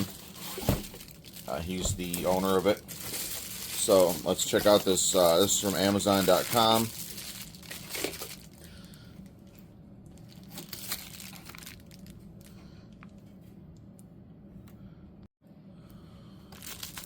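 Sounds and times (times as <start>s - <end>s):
package crinkling and rustling: 0.0s - 13.2s, 16.5s - 17.0s
steady low hum: 0.0s - 17.0s.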